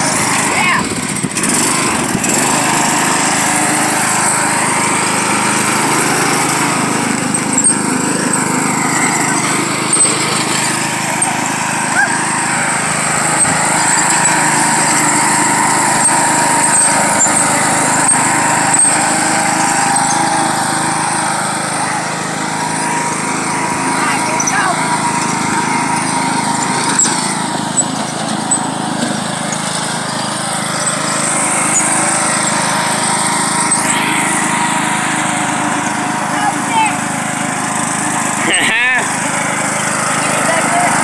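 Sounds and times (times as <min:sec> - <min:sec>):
riding lawn mower engine: 0:00.0 - 0:41.0.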